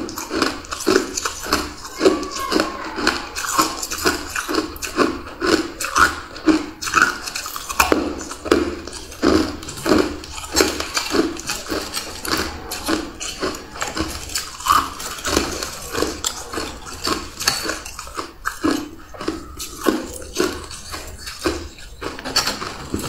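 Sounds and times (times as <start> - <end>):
ice crunching between teeth: 0.0 - 23.0.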